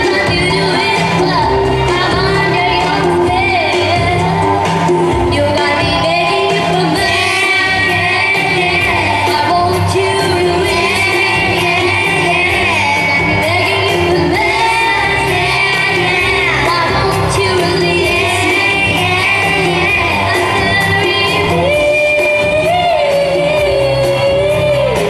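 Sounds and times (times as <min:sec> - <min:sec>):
backing track with steady beat: 0:00.0 - 0:25.0
girls singing pop song: 0:00.0 - 0:25.0.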